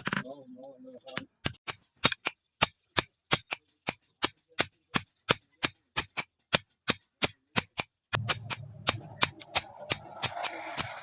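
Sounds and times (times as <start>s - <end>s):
hammer striking steel on anvil: 1.2s - 11.0s.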